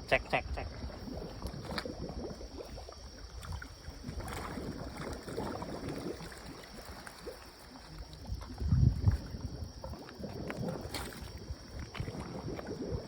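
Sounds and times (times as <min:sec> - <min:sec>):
seawater lapping against breakwater: 0:00.0 - 0:13.0
wind rumbling on microphone: 0:00.0 - 0:13.0.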